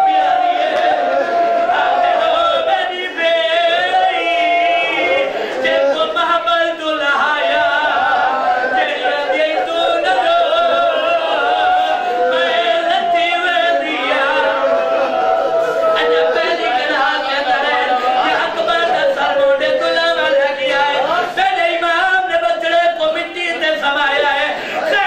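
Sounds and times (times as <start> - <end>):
man chanting through microphone: 1.6 - 25.0.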